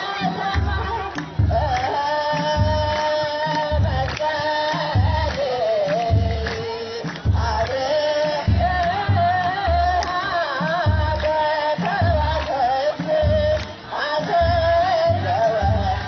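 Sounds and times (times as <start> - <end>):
deep drum beat: 0.0 - 16.0
group chanting long notes: 0.0 - 16.0.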